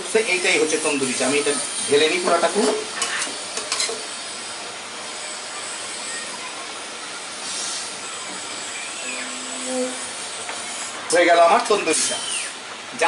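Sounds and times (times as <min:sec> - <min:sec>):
tea boiling and sizzling: 0:00.0 - 0:13.0.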